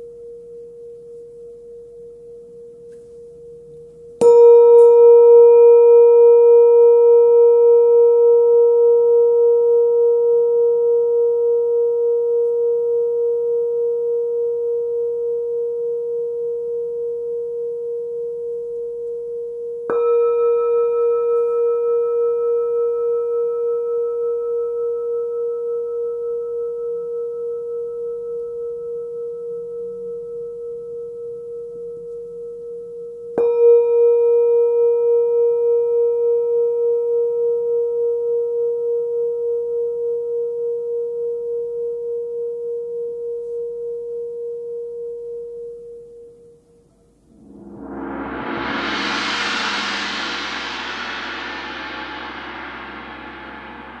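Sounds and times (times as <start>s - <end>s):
singing bowl ringing: 0.0s - 54.0s
singing bowl strike: 4.2s - 13.6s, 14.4s - 41.7s, 46.9s - 54.0s.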